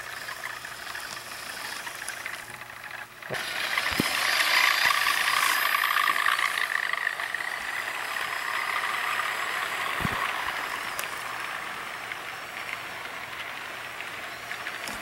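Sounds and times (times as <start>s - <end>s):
model train motor whine: 0.0s - 15.0s
train cars rolling on track: 0.0s - 15.0s.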